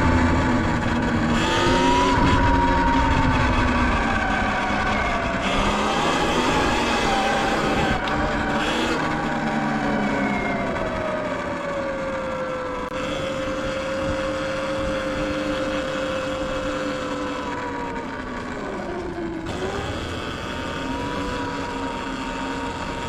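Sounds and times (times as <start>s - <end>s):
electric motor whining: 0.0s - 23.0s
wind noise: 0.0s - 23.0s.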